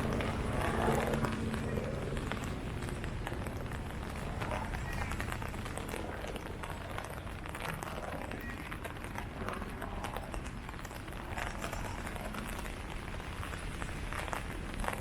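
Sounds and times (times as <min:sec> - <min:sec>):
rain falling on leaves: 0:00.0 - 0:15.0.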